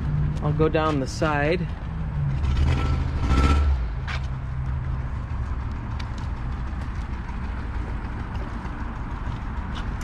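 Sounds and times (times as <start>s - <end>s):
car engine humming: 0.0s - 10.0s.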